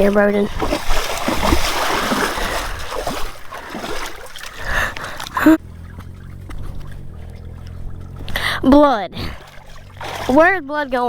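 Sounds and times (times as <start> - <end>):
steady low hum: 0.0 - 11.0
water splashing and sloshing: 0.0 - 11.0.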